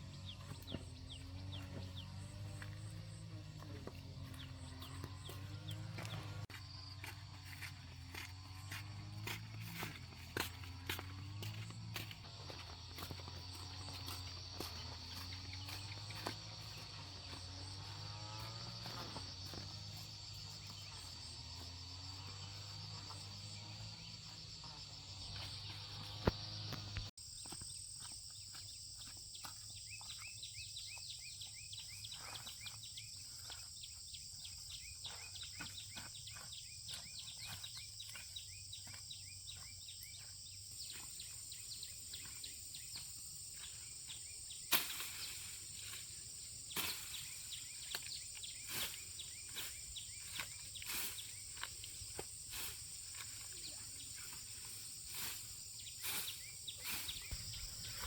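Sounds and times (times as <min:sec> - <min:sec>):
crickets and insects chirring: 0:00.0 - 0:58.0.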